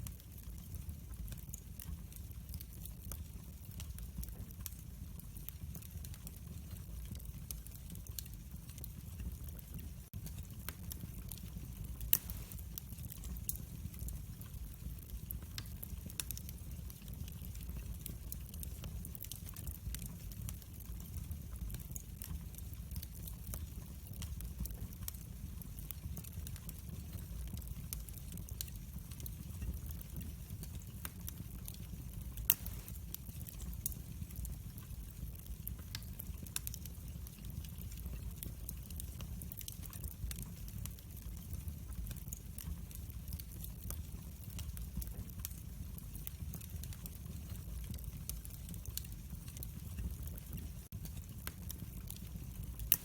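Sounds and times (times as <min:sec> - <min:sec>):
low fire rumble: 0:00.0 - 0:53.0
wood fire crackling and popping: 0:00.0 - 0:53.0.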